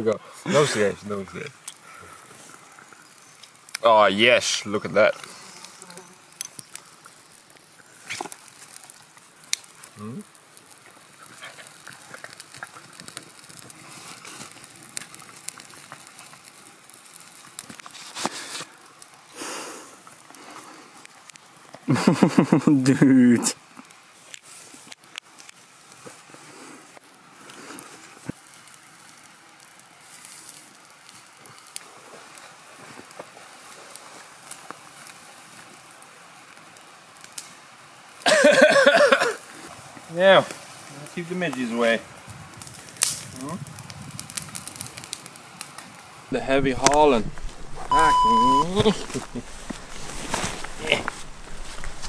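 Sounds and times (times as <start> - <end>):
small fire crackling: 0.0 - 52.0
dry twigs rustling and snapping: 1.4 - 19.4, 20.0 - 21.9, 23.6 - 26.3, 26.9 - 37.8, 39.4 - 48.0, 48.6 - 52.0.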